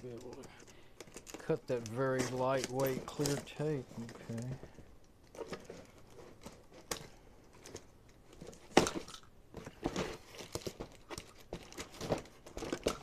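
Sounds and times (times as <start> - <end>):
tape and cardboard crinkling: 0.0 - 13.0.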